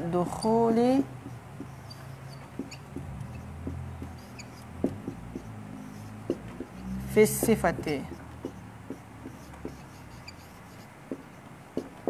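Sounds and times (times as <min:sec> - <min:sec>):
marker tapping and squeaking: 0:00.0 - 0:12.0.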